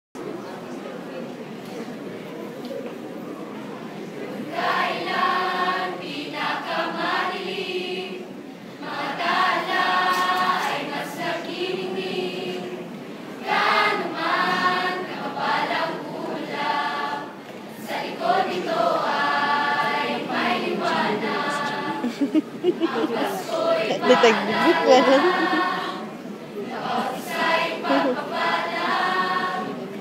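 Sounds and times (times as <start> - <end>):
mixed choir singing: 4.1 - 30.0.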